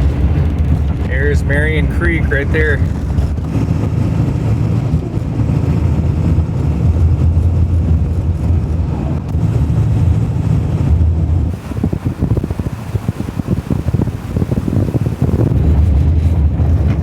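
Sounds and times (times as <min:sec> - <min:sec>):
diesel truck engine and road rumble: 0:00.0 - 0:17.0.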